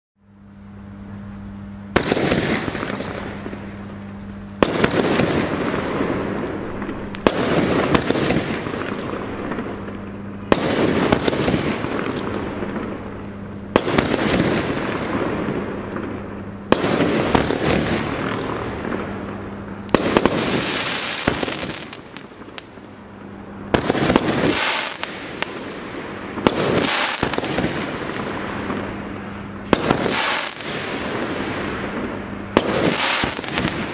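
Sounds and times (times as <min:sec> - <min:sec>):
crackling hiss of firework stars: 0:01.0 - 0:33.9
firework bangs: 0:01.9 - 0:33.9.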